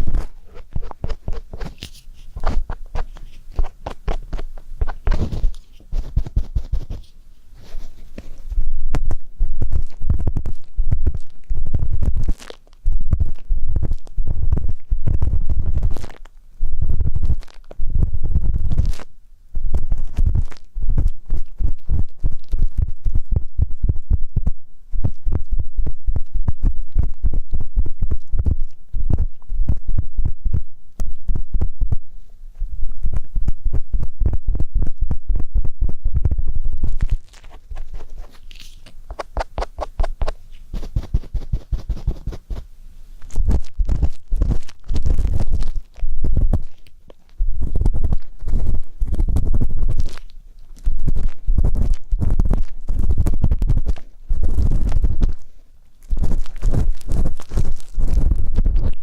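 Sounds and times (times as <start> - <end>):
ear pick scraping microphone: 0.0 - 59.0.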